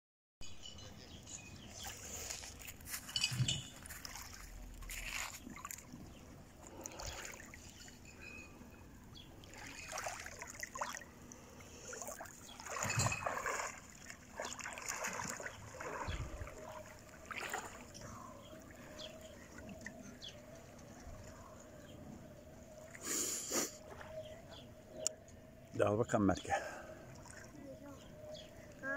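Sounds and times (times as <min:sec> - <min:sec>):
water splashing and lapping: 0:01.3 - 0:25.2, 0:25.8 - 0:28.9.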